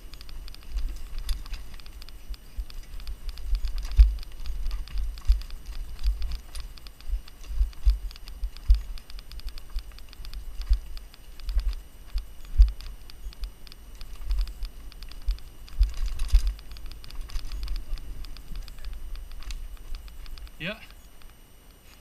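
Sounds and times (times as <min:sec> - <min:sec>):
low thumps over bumps: 0:00.0 - 0:20.8
bike clattering and rattling: 0:00.0 - 0:22.0.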